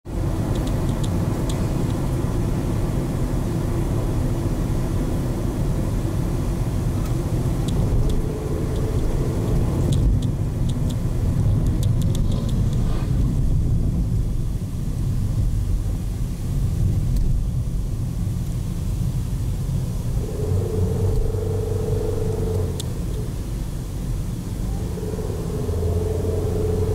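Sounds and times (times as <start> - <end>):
car road rumble inside cabin: 0.1 - 26.9.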